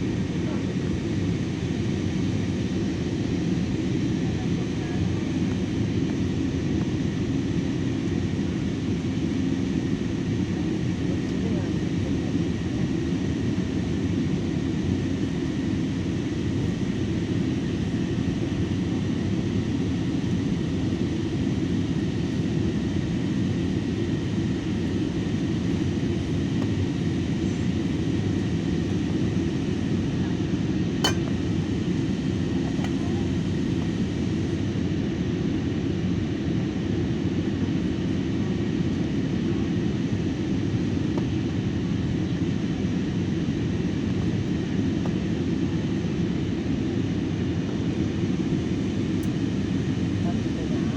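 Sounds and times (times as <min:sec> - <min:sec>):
airliner cabin low rumble: 0:00.0 - 0:50.9.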